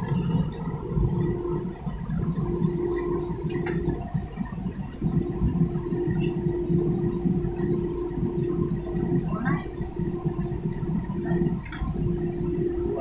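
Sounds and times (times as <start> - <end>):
airliner cabin rumble: 0.0 - 13.0
steady hum: 0.0 - 13.0.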